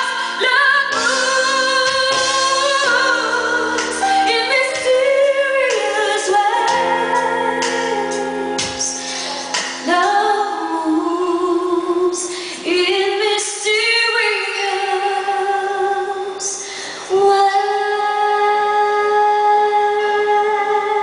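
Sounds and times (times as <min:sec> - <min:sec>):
woman singing into a microphone: 0:00.0 - 0:21.0.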